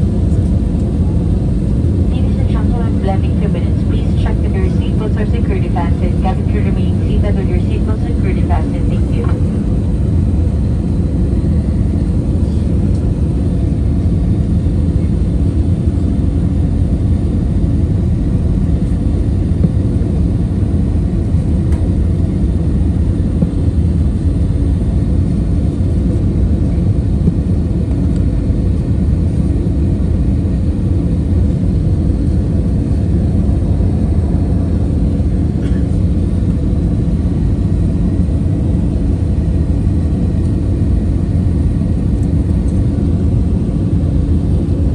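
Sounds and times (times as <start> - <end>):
airliner cabin drone: 0.0 - 44.9.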